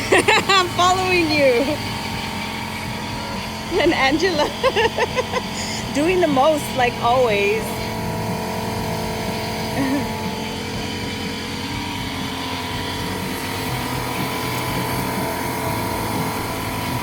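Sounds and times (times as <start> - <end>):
small motor humming: 0.0 - 17.0.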